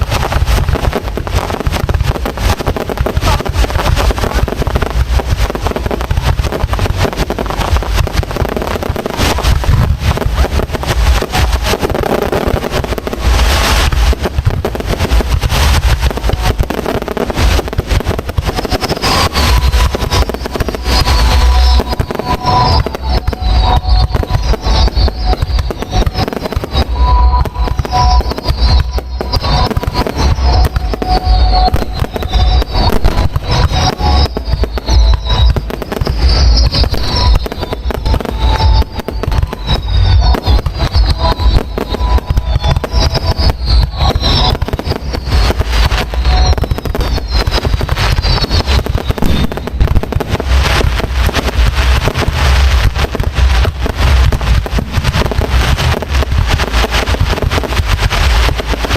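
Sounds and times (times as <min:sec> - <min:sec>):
falling firework whistles: 0:00.0 - 0:58.9
fireworks bangs and crackles: 0:00.0 - 0:58.9.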